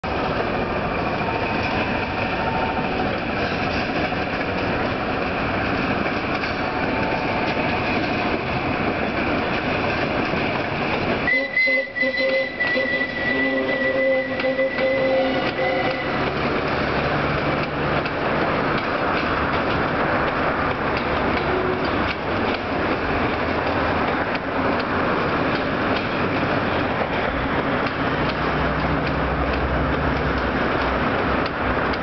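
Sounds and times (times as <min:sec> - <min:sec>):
train running gear noise: 0:00.0 - 0:32.0.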